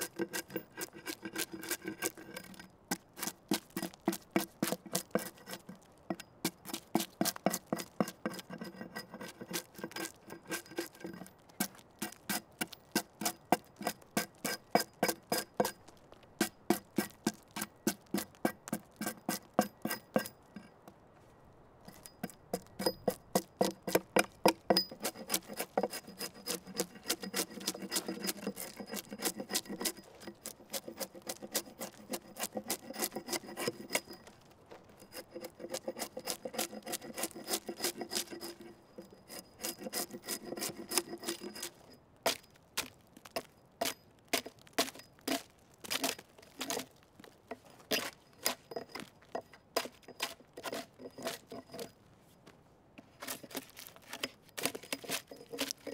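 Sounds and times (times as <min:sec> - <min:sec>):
axe blade shaving a log: 0:00.0 - 0:20.6, 0:21.9 - 0:51.9, 0:53.0 - 0:55.9.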